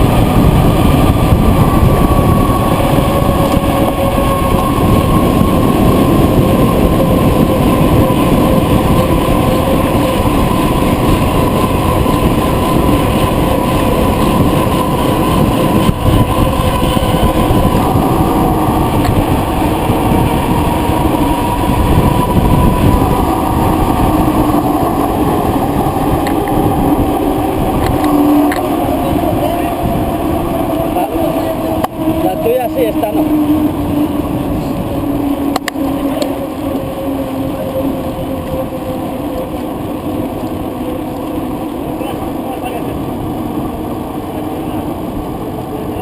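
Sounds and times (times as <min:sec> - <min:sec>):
bicycle tyre rumble: 0:00.0 - 0:46.0
wind buffeting microphone: 0:00.0 - 0:46.0.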